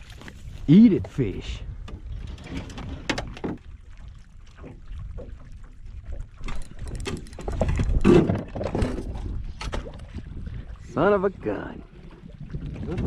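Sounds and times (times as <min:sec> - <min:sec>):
water lapping against boat hull: 0:00.0 - 0:13.0
wind on microphone: 0:00.0 - 0:13.0.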